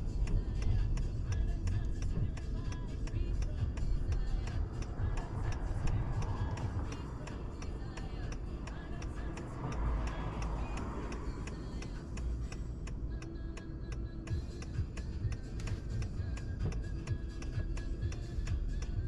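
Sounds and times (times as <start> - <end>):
car cabin road rumble: 0.0 - 19.0
turn signal ticking: 0.0 - 19.0.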